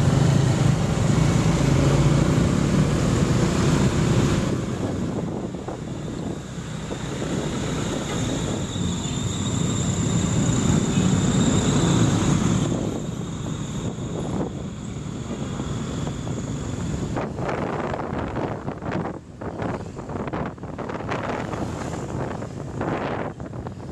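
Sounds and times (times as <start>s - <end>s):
road noise: 0.0s - 23.9s.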